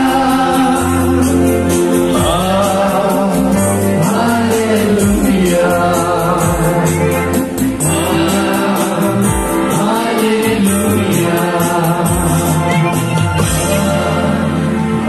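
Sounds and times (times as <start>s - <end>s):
high percussion beat: 0.0s - 14.6s
singing: 0.0s - 15.0s
synthesizer keyboard: 0.0s - 15.0s.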